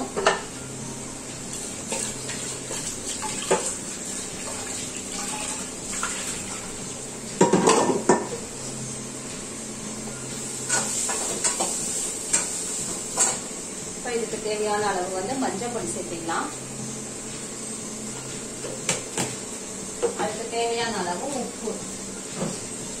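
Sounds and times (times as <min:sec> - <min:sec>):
frying hiss: 0:01.0 - 0:23.0.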